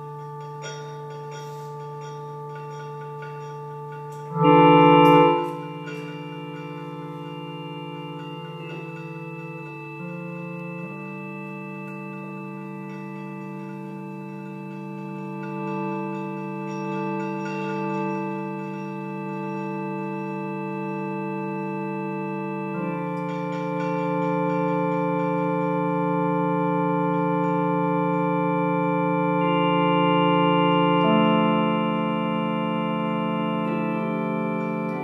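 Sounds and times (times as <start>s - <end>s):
electronic keyboard organ chord: 0.0s - 35.0s.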